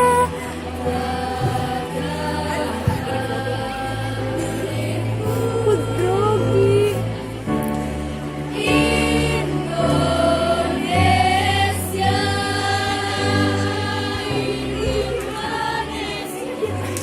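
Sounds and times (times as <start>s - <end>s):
choir singing long notes: 0.0s - 17.0s.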